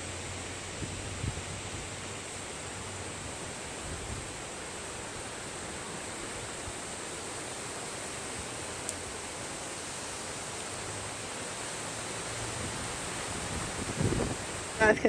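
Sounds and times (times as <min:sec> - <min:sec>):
strong wind through trees: 0:00.0 - 0:15.0.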